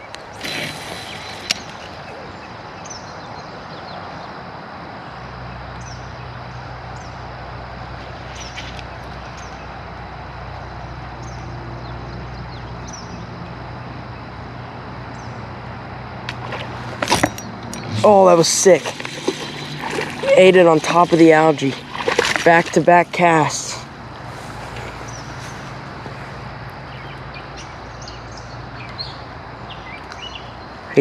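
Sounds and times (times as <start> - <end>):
outdoor ambience: 0.0 - 31.0.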